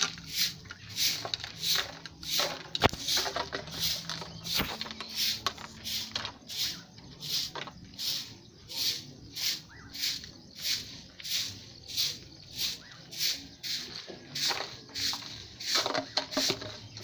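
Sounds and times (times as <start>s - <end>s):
broom sweeping dirt: 0.0s - 17.0s.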